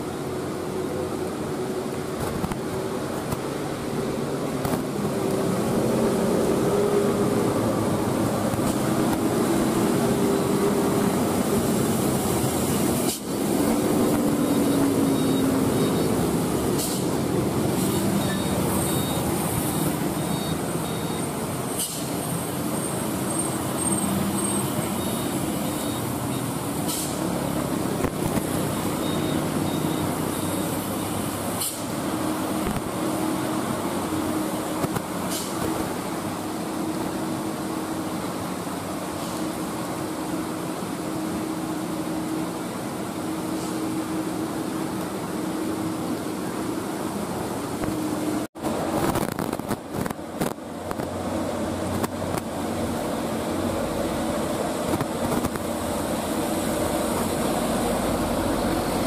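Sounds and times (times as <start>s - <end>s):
road traffic rumble: 0.0s - 59.0s
truck and car engines running: 0.0s - 59.0s.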